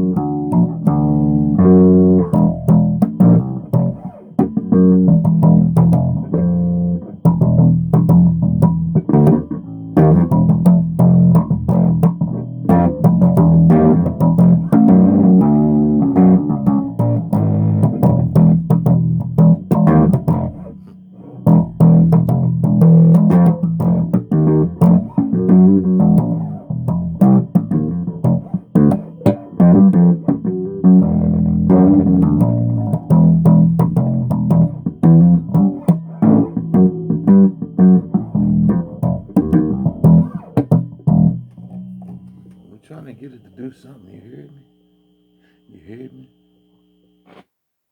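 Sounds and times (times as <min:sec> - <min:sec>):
electric bass guitar plucked: 0:00.0 - 0:44.7.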